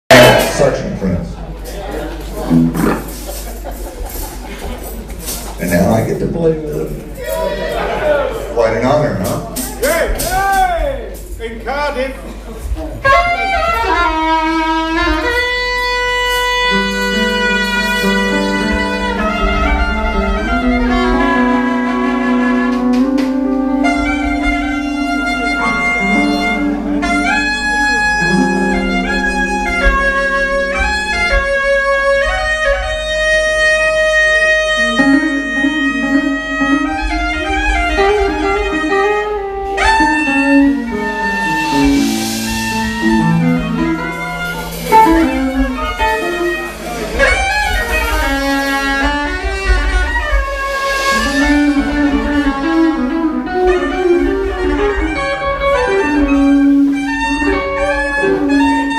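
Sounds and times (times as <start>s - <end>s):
electric guitars and bass: 0.1s - 11.4s, 12.6s - 58.9s
saxophone notes: 2.2s - 4.2s, 12.7s - 58.9s.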